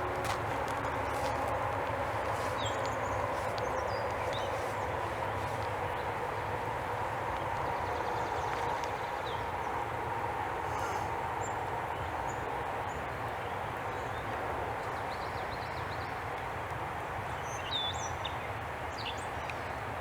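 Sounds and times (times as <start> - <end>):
outdoor background hum: 0.0 - 20.0.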